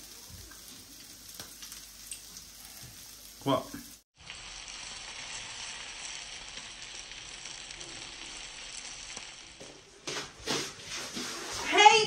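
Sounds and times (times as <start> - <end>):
food sizzling in a frying pan: 0.0 - 10.6.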